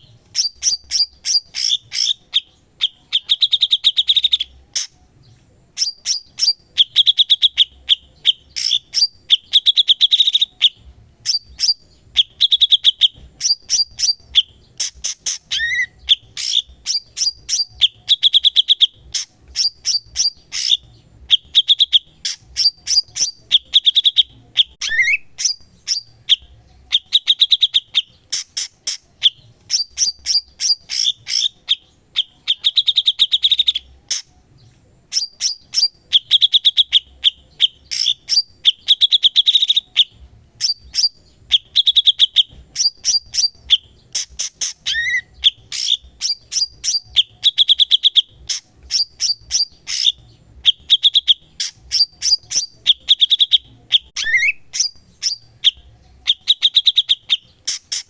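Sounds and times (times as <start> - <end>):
bird singing chirps and trills: 0.0 - 58.0.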